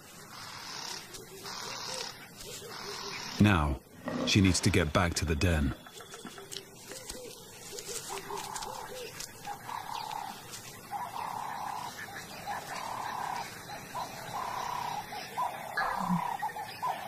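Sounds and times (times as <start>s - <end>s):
wild animal calls: 0.3s - 4.5s, 5.9s - 17.0s.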